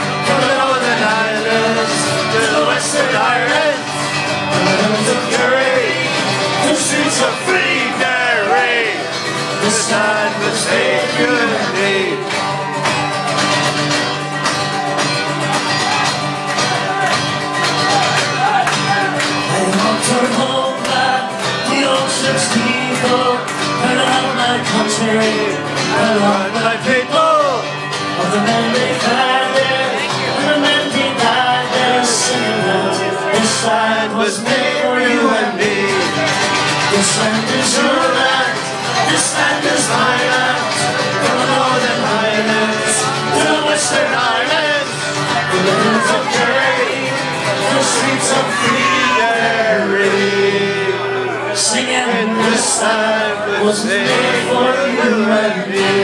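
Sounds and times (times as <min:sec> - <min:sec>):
bar crowd: 0:00.0 - 0:56.0
live folk band with singing: 0:00.0 - 0:56.0.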